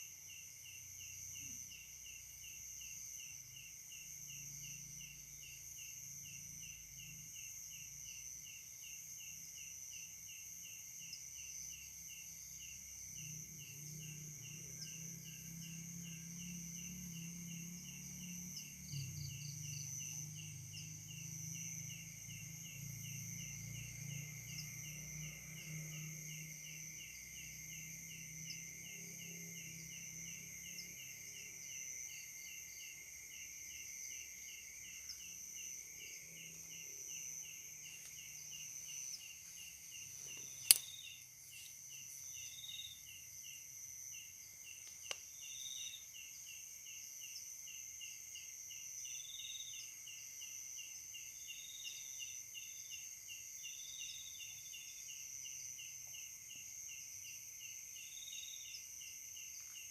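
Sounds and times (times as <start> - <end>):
high-pitched insect drones: 0.0 - 59.9
insect pulsing trill: 0.0 - 59.9.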